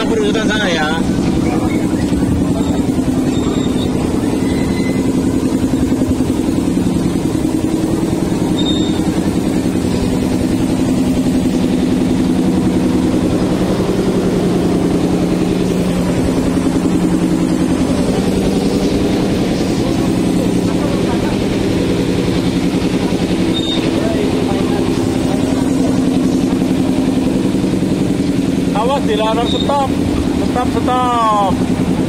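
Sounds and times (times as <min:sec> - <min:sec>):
small train engine humming: 0:00.0 - 0:32.0.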